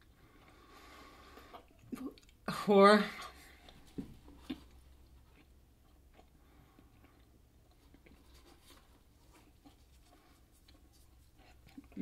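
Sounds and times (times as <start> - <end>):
wet gum chewing: 0.0 - 2.5, 3.2 - 12.0
low room hum: 0.0 - 12.0.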